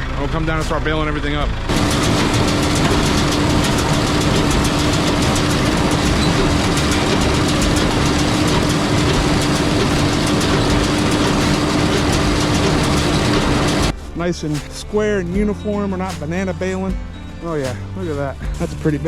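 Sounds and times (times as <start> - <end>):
tractor engine hum: 0.0 - 18.4
rhythmic baler clatter: 0.0 - 19.0.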